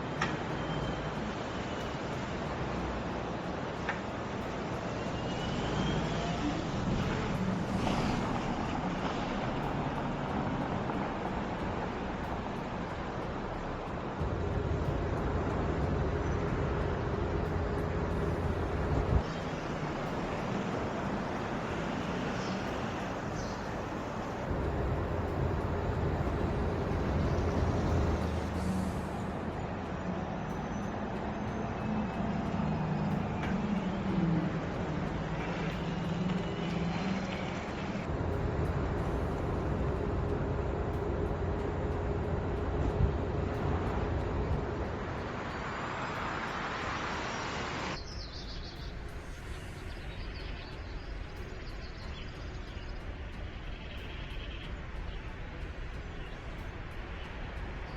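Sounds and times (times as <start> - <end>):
tyre road and wind noise: 0.0 - 57.9
low hum: 4.3 - 57.9.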